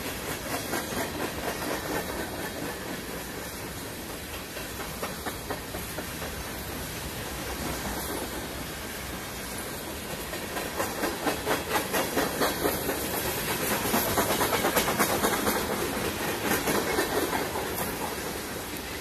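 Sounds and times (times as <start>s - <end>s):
train wheels clattering: 0.0s - 19.0s.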